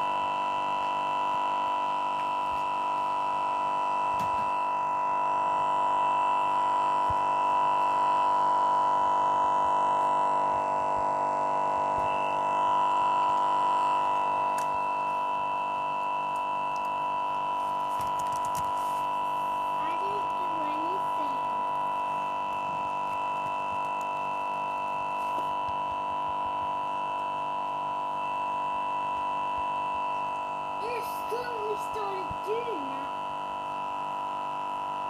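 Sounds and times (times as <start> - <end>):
laptop loud steady buzz: 0.0 - 35.0.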